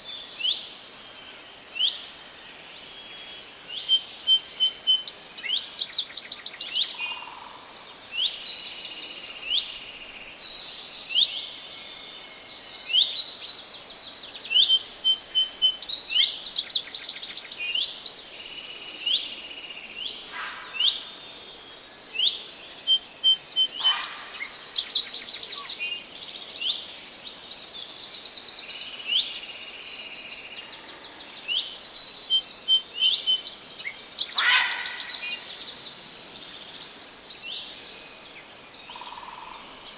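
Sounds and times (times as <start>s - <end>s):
forest birds singing: 0.0s - 39.9s
steady background hiss: 0.0s - 39.9s.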